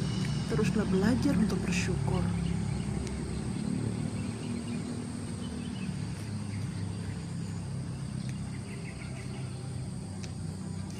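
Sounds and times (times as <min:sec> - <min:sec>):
bird or insect chirps: 0:00.0 - 0:10.9
steady low hum: 0:00.0 - 0:10.9.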